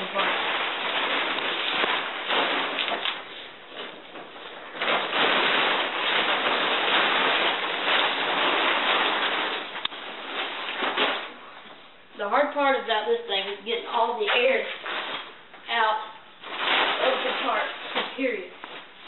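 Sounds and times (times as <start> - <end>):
tent fabric rustling: 0.0 - 11.8, 13.5 - 19.0.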